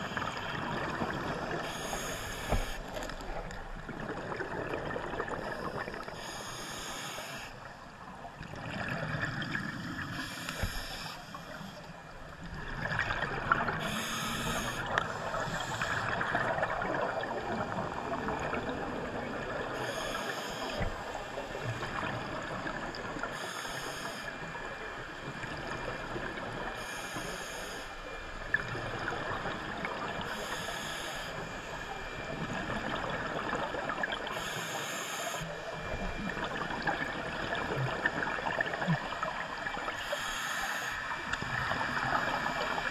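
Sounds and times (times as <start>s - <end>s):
exhaled bubbles hissing: 0.0s - 42.9s
gurgling water: 0.0s - 42.9s.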